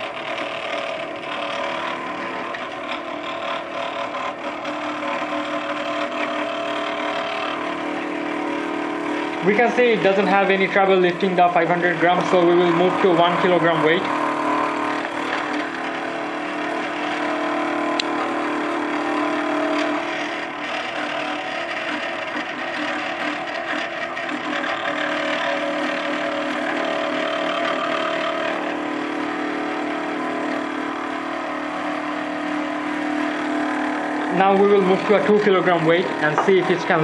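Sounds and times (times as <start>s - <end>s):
stepper motor whining: 0.0s - 37.0s.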